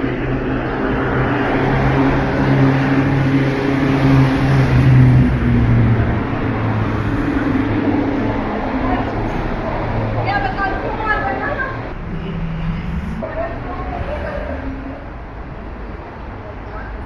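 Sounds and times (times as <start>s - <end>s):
vehicle engine passing by: 0.0s - 16.1s.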